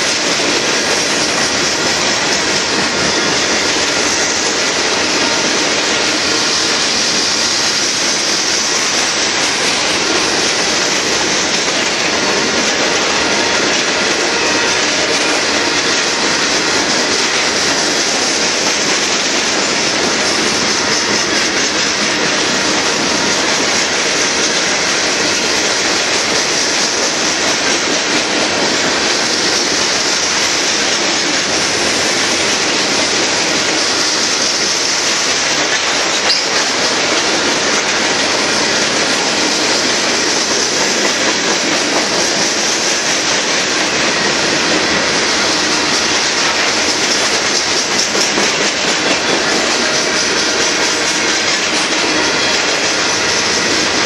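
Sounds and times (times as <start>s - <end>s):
train wheel squeal: 0.0s - 54.0s
train wheels clacking over rail joints: 0.0s - 54.0s.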